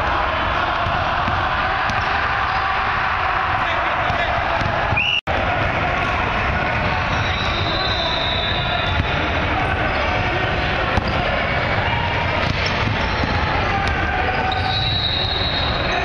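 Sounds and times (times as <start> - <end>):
echoing voices: 0.0 - 16.0.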